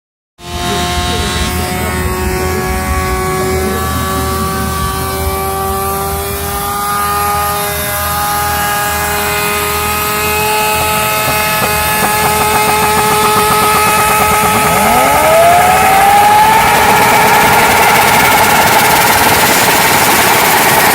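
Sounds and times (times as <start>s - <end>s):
motorcycle engine at high revs: 0.4s - 20.9s
second engine revving up: 0.4s - 20.9s.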